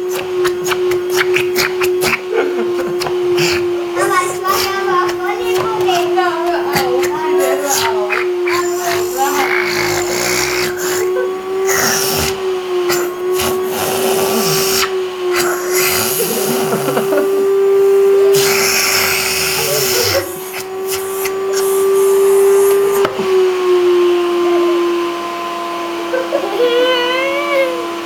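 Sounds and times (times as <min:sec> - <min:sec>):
vacuum cleaner motor hum: 0:00.0 - 0:28.0.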